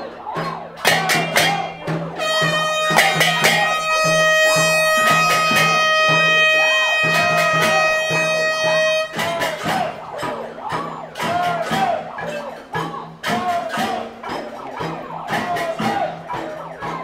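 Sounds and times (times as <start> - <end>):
banging noisemakers: 0.0 - 17.0
held horn tone: 0.1 - 17.0.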